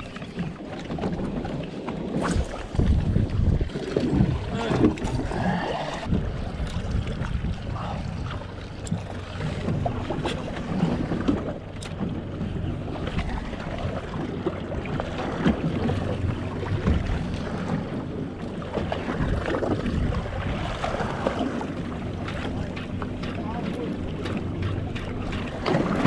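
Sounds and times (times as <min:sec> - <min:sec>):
waves slapping boat hull: 0:00.0 - 0:26.0
wind buffeting microphone: 0:00.0 - 0:26.0.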